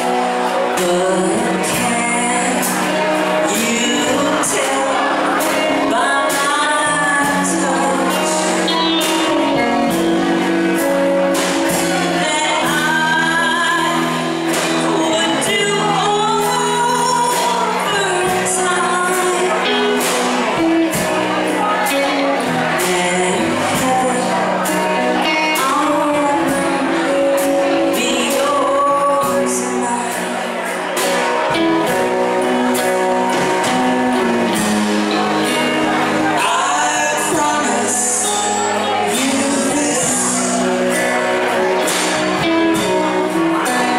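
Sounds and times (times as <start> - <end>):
band playing slow song live: 0.0 - 43.9.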